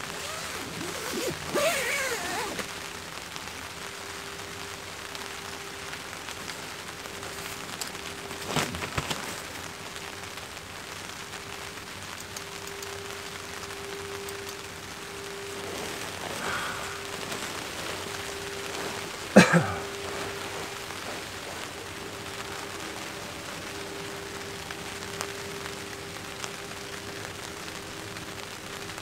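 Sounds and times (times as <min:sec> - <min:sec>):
rain pattering on a tarp: 0:00.0 - 0:29.0.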